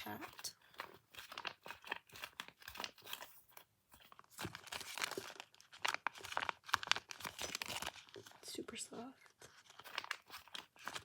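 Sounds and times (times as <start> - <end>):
plastic crackling: 0.0 - 11.0.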